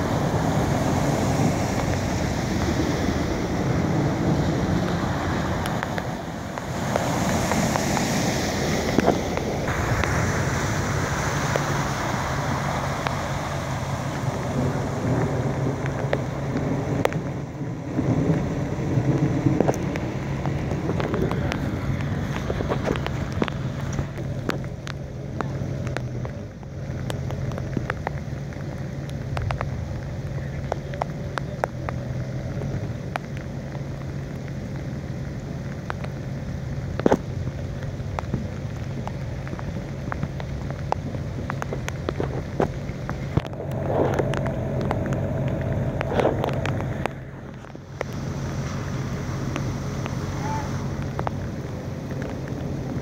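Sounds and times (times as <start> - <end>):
raindrops ticking: 0.0 - 53.0
steady rain falling: 0.0 - 53.0.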